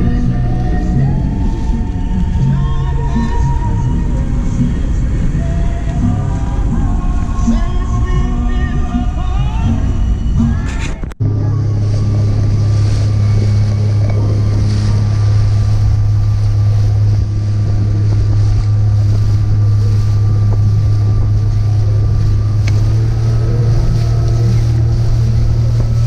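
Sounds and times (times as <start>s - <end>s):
boat engine running: 0.0s - 26.0s
wind buffeting microphone: 0.0s - 26.0s.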